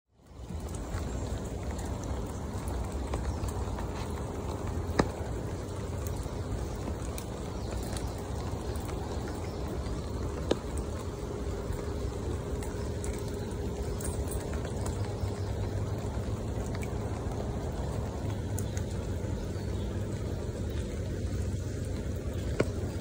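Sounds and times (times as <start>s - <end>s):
rain falling on creek water: 0.1s - 23.0s.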